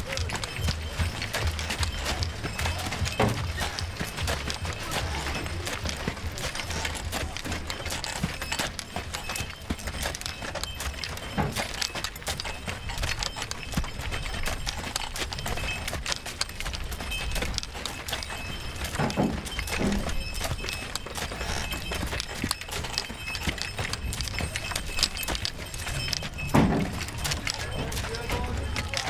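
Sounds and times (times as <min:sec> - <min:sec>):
horse hooves clip-clopping: 0:00.0 - 0:29.0
knocks and clatter: 0:00.0 - 0:29.0.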